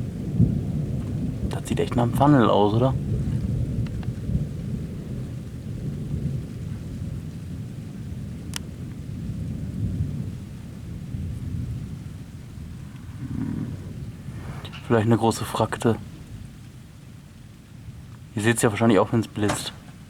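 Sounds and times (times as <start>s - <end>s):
rain falling: 0.0s - 20.0s
thunder rumbling: 0.0s - 20.0s.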